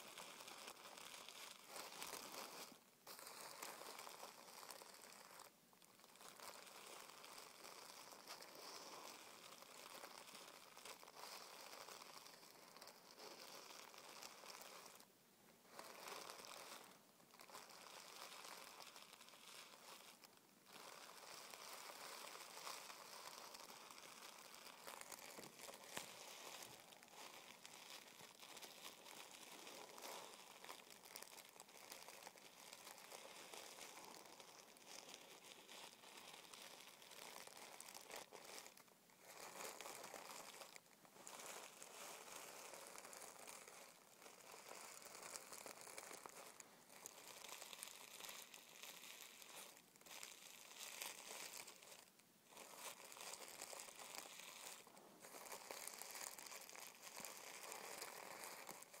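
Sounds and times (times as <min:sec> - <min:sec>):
fingertips crinkling tissue paper: 0:00.0 - 0:59.0.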